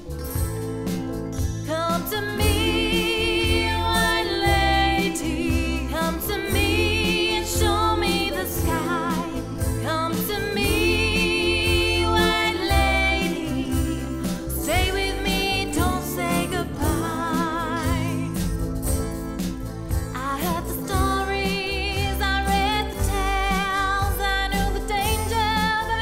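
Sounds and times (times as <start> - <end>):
instrumental backing with bass: 0.0 - 26.0
woman singing with vibrato: 1.7 - 18.5, 20.2 - 26.0.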